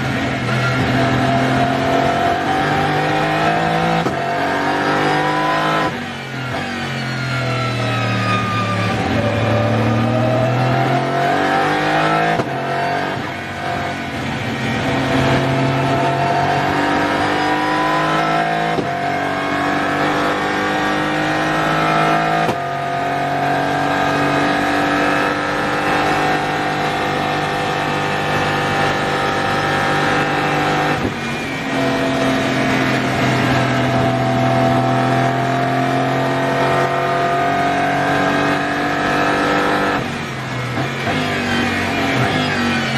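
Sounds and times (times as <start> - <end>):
race car engine accelerating: 0.0 - 42.9.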